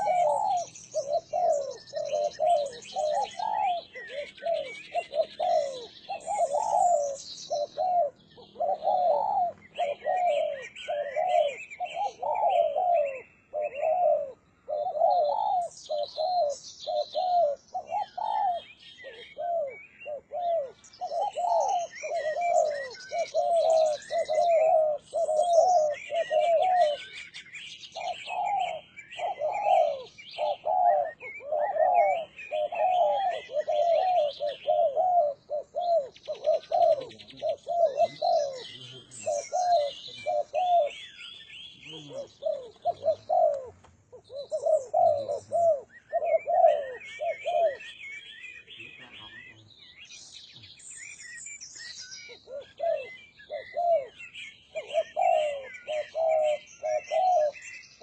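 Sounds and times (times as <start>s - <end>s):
dove cooing: 0.0s - 49.7s, 52.2s - 58.0s
small birds chirping: 0.0s - 58.0s.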